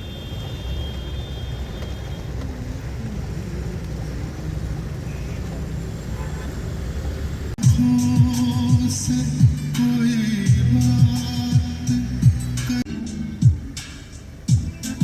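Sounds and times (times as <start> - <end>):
road vehicle rumble from on board: 0.0 - 15.0.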